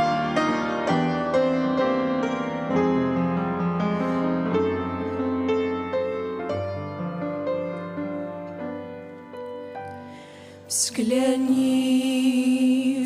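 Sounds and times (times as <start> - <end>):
slow hymn on piano: 0.0 - 13.0.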